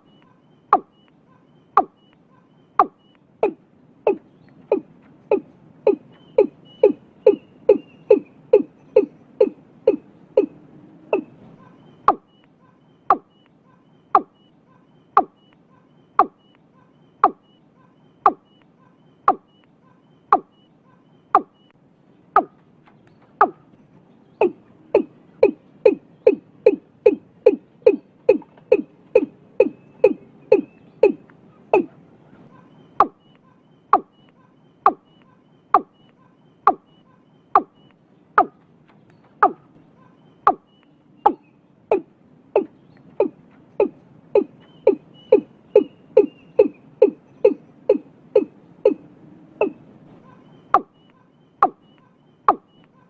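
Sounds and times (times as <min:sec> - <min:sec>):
watercock calling: 0:00.0 - 0:21.7, 0:23.2 - 0:23.7, 0:24.3 - 0:38.6, 0:39.3 - 0:53.0.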